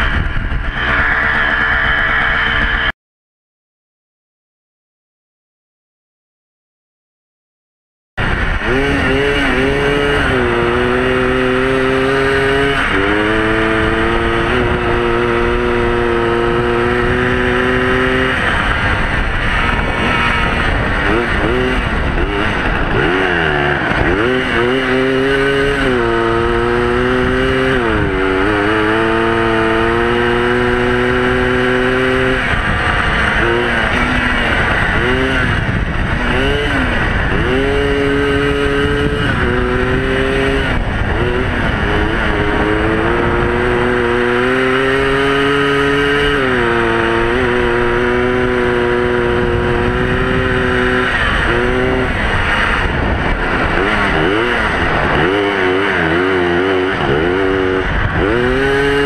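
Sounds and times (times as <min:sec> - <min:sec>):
kart engine revving: 0:00.0 - 0:02.9, 0:08.2 - 0:59.0.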